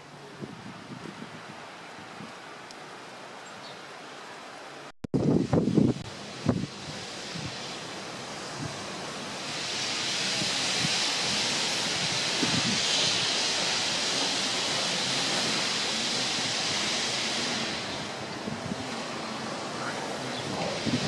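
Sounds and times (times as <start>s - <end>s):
rushing wind: 0.0s - 21.0s.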